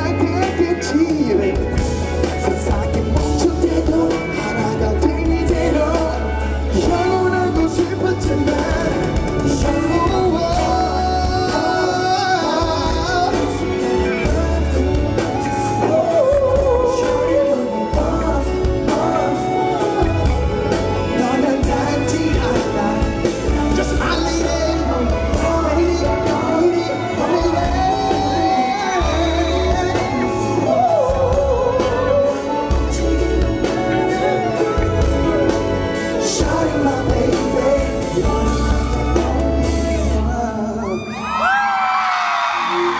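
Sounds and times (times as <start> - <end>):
singing over a pop beat: 0.0 - 42.9.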